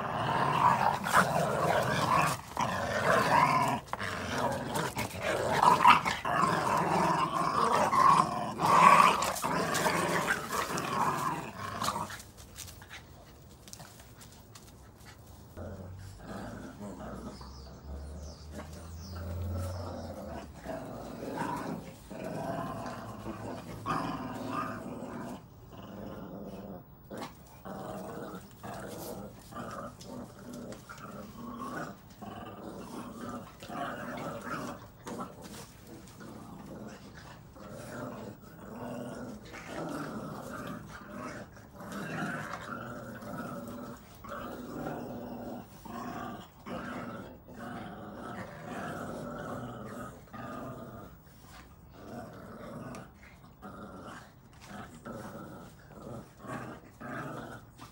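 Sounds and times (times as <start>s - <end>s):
puppies growling: 0.0s - 13.2s, 15.5s - 57.9s.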